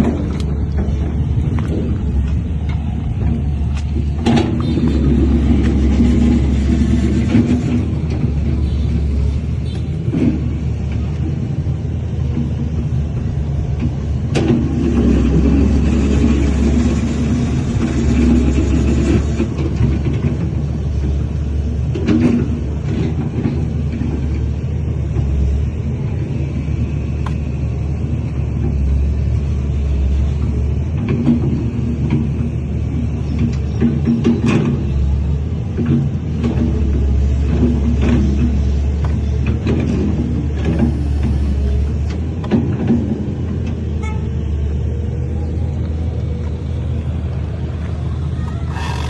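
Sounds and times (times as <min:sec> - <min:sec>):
diesel machinery engine rumble: 0:00.0 - 0:49.0.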